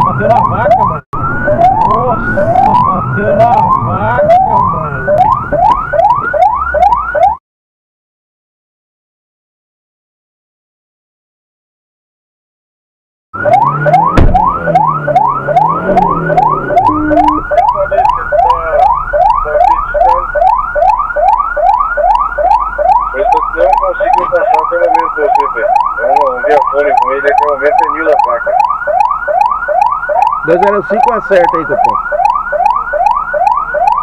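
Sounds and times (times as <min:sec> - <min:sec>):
police siren yelping: 0:00.0 - 0:07.4, 0:13.4 - 0:34.0.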